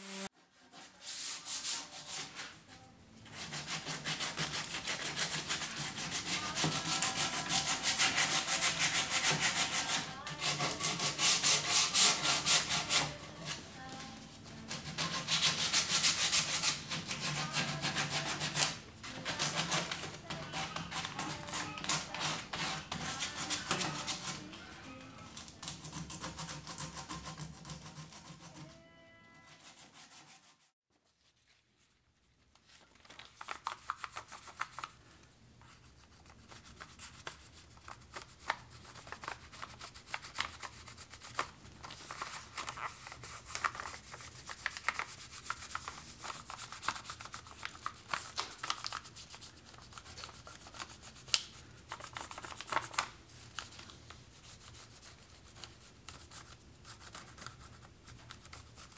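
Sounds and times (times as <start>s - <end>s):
pencil scratching on paper: 3.2s - 13.7s, 14.6s - 24.6s, 25.6s - 30.7s, 35.7s - 53.0s, 54.3s - 58.9s.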